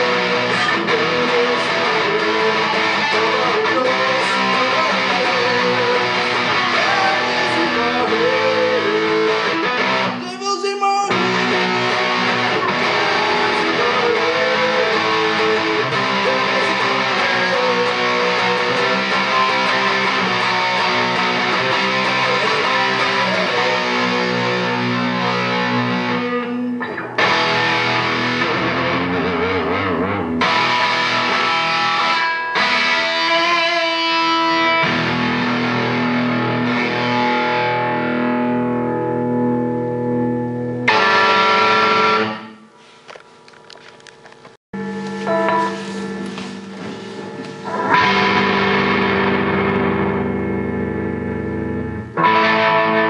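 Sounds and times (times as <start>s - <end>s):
guitar background music: 0.0s - 43.0s, 44.8s - 53.0s.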